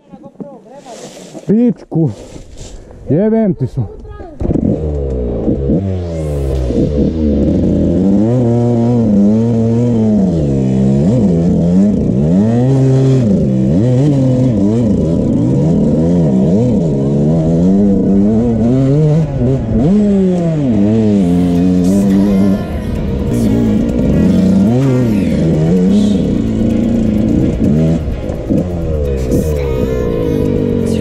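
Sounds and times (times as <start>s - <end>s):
dirt bike engine revving: 4.4s - 31.0s.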